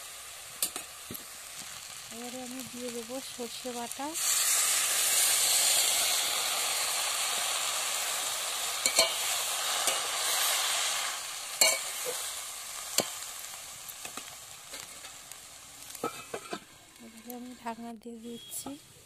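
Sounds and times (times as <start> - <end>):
curry sizzling in a pan: 0.0 - 19.0.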